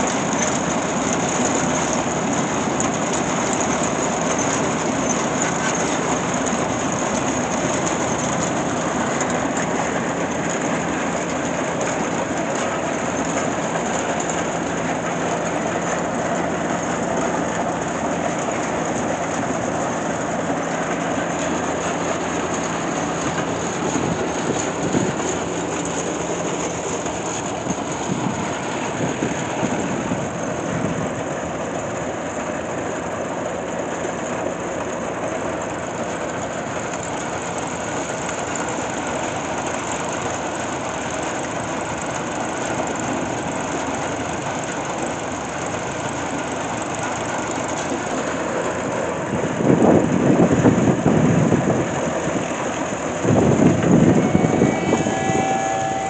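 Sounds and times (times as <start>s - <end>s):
old machinery running: 0.0s - 56.0s.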